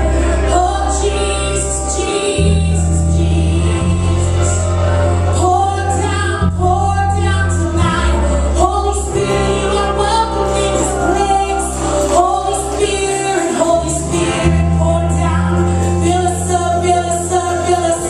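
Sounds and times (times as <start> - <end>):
group singing worship song: 0.0 - 18.0
sustained bass notes: 0.0 - 18.0.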